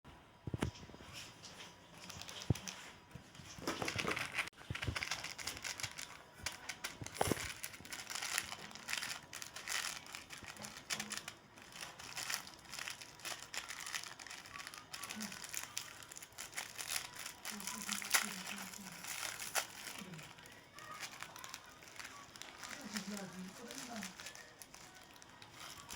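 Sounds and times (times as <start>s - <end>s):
wrappers crumpling and rustling: 0.6s - 25.9s.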